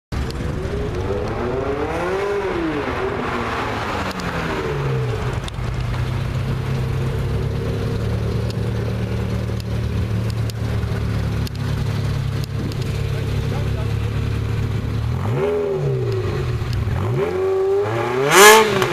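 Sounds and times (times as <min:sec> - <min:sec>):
car engine accelerating and idling: 0:00.1 - 0:18.9.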